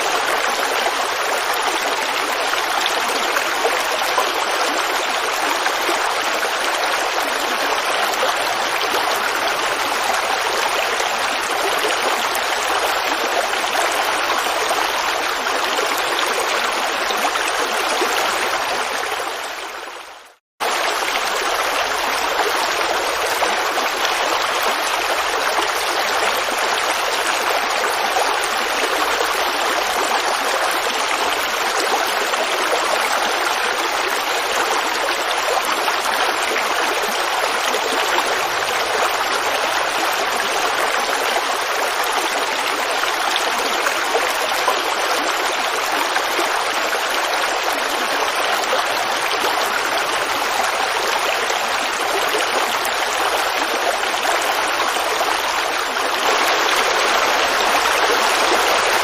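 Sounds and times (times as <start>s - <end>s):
creek water babbling: 0.0s - 59.0s.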